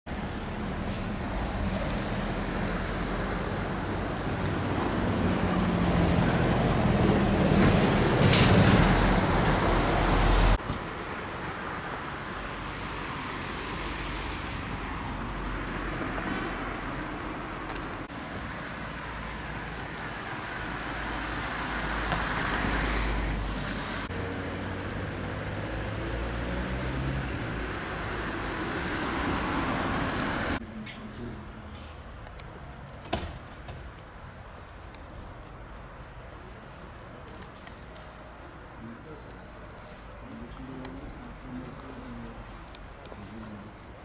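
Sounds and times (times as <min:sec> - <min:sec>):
cars passing: 0:00.1 - 0:44.0.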